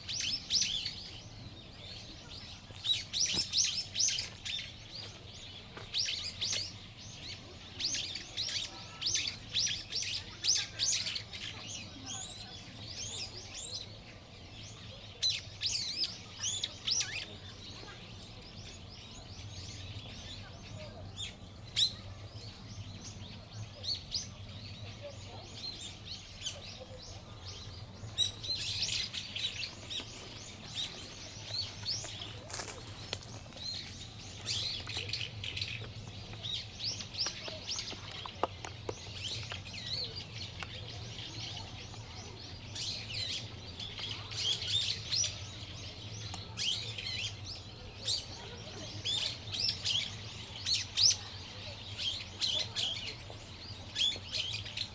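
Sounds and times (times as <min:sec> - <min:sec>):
small songbirds chirping: 0:00.0 - 0:54.9.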